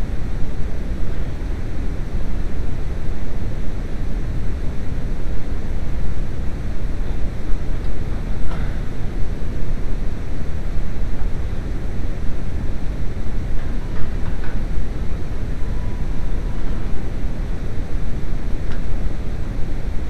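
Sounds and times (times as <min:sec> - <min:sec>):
low rumbling noise: 0:00.0 - 0:20.0.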